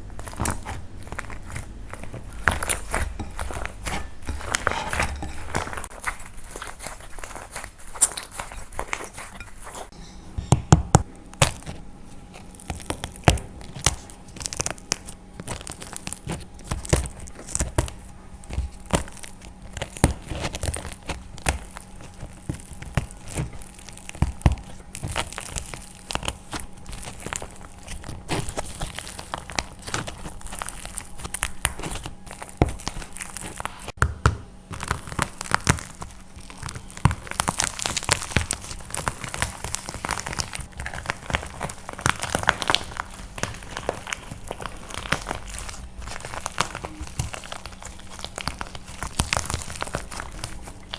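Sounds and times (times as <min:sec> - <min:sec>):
dried clay crunching and cracking: 0:00.0 - 0:50.9.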